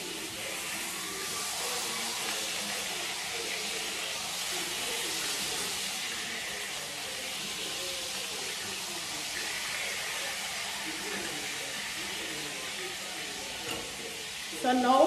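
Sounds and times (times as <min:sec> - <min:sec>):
burger patties sizzling in a pan: 0:00.0 - 0:15.0.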